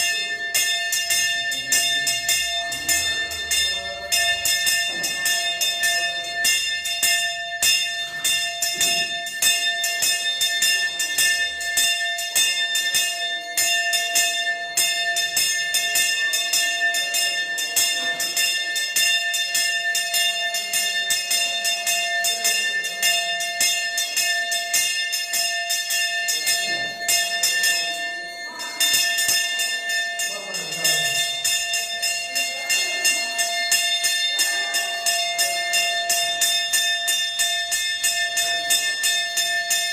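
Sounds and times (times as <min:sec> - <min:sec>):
brass hand bell ringing: 0:00.0 - 0:39.9
faint chanting: 0:00.0 - 0:39.9.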